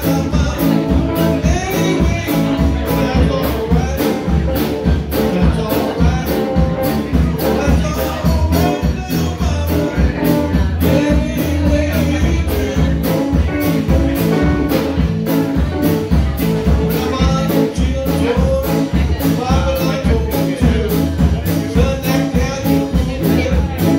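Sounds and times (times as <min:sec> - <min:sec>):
drum kit beat: 0:00.0 - 0:23.9
electric bass: 0:00.0 - 0:23.9
electric guitars: 0:00.0 - 0:23.9.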